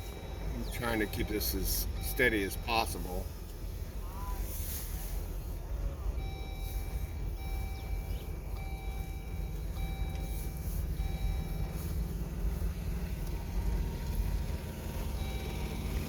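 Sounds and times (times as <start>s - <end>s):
reversing alarm beeping: 0.0s - 3.3s, 6.1s - 16.0s
engines rumbling: 0.0s - 16.0s.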